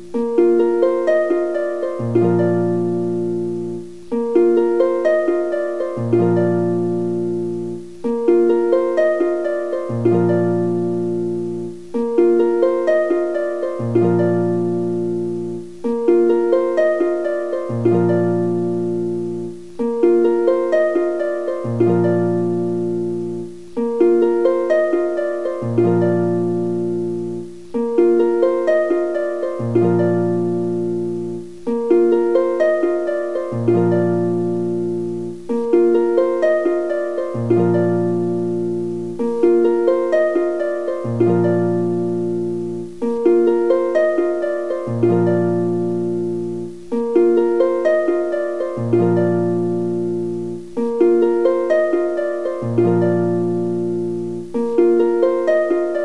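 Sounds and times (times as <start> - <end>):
plucked string melody: 0.0 - 56.0.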